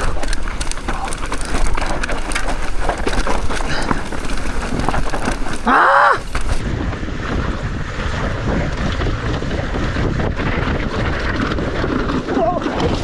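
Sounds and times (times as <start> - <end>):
bike tyres rattling over ground: 0.0 - 13.0
wind on microphone: 0.0 - 13.0.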